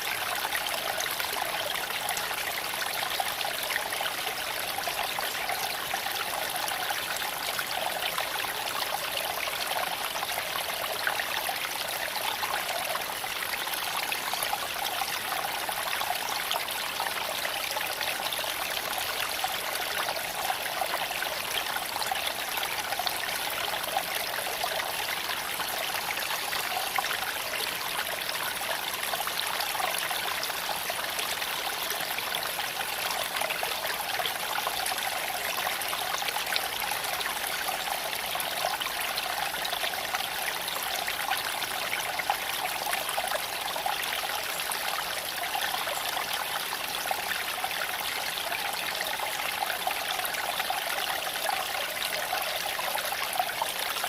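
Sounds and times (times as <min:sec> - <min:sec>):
creek flowing over stones: 0:00.0 - 0:54.0.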